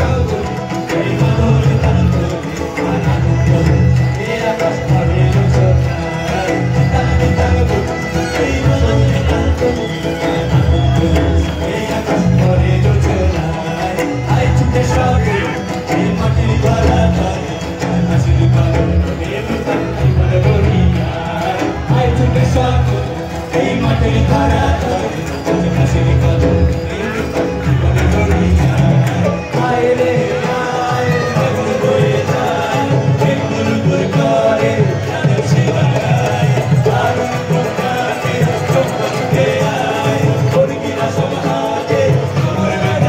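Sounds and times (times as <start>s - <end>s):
folk band music over loudspeakers: 0.0s - 43.0s.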